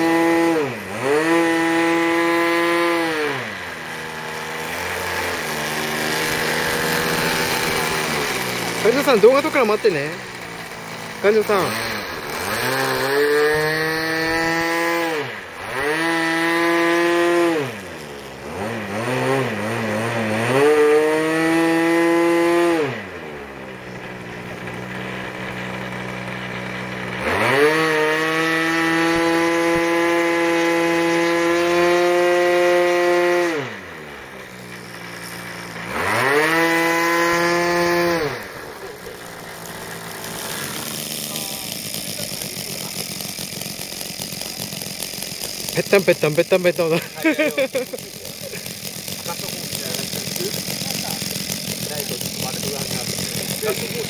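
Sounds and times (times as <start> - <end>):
model airplane engine revving: 0.0 - 54.0.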